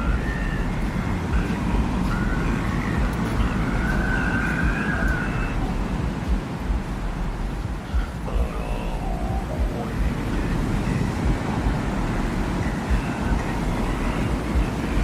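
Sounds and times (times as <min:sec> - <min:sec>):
faint wavering whistling: 0:00.0 - 0:15.0
low rumble of wind gusts: 0:00.0 - 0:15.0.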